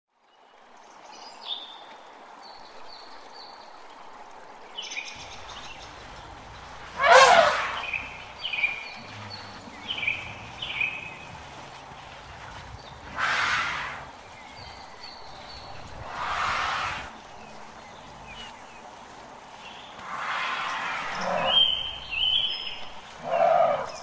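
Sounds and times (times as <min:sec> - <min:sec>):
birds chirping: 0:04.7 - 0:24.0.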